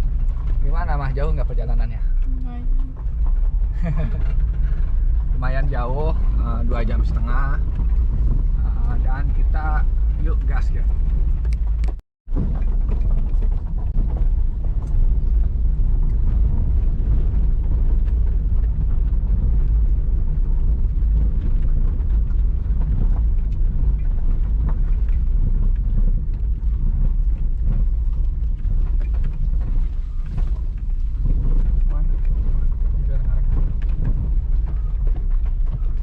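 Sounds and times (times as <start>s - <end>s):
vehicle running noise: 0.0s - 36.0s
wind buffeting microphone: 0.0s - 36.0s.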